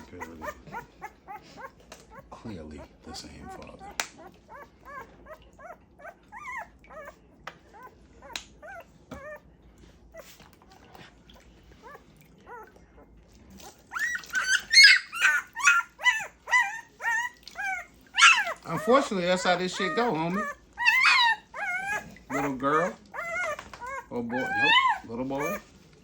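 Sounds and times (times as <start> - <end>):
puppy whimpering and squealing: 0.0 - 9.5, 11.8 - 25.7.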